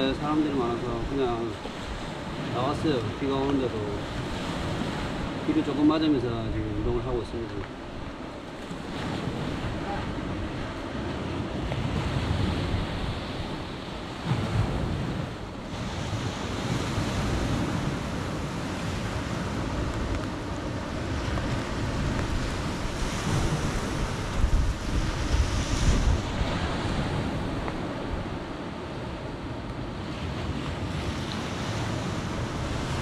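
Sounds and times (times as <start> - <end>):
small waves washing onto sand: 0.0 - 33.0
wind buffeting microphone: 0.0 - 33.0.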